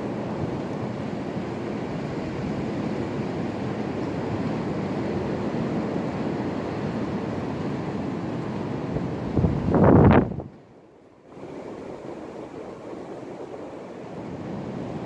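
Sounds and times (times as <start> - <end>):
strong wind rushing through trees: 0.0 - 15.0.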